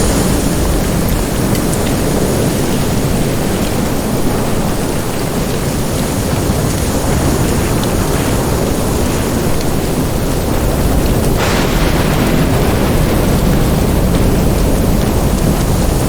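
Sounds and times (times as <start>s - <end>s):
deep thunder rumble: 0.0s - 16.0s
heavy rain: 0.0s - 16.0s.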